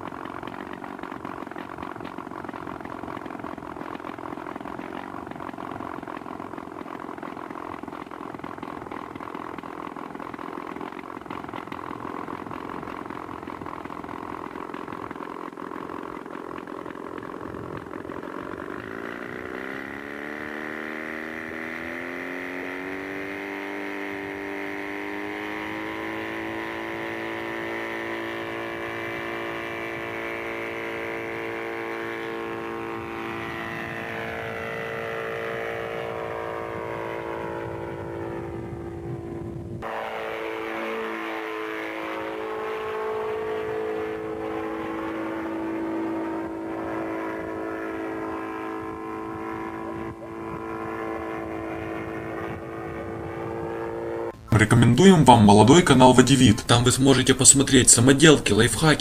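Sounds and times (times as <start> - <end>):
small aircraft engine revving: 0.0 - 59.0.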